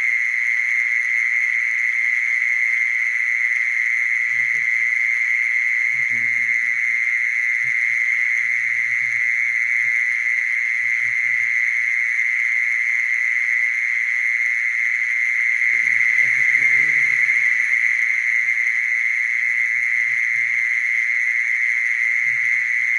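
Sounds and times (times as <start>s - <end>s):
mole cricket trilling: 0.0s - 22.9s.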